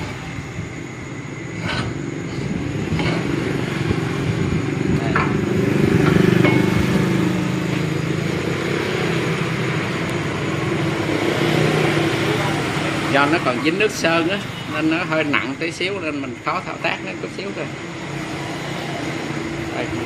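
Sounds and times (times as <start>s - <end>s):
low rumble of street traffic: 0.0s - 20.0s.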